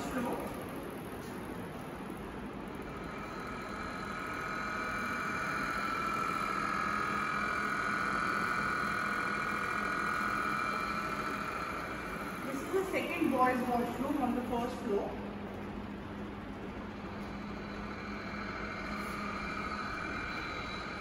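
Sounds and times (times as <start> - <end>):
machine hum with high whine: 0.0 - 21.0.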